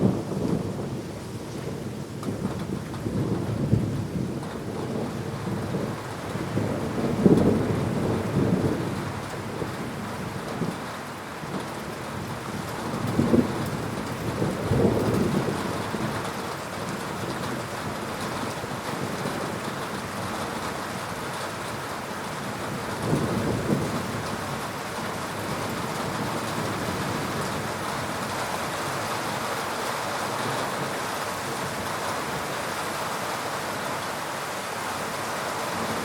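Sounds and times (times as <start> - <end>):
low rumble of thunder: 0.0 - 21.0, 21.6 - 29.4
steady rain falling: 0.0 - 36.0.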